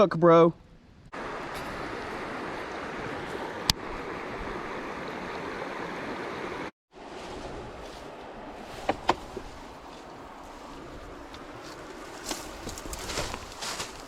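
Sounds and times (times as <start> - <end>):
creek water flowing: 1.2 - 13.1.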